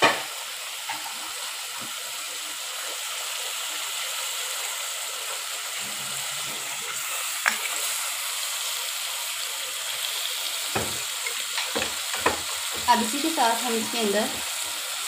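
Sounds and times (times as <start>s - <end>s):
chicken sizzling in a pan: 0.0s - 15.0s
utensil turning food in pan: 0.0s - 15.0s.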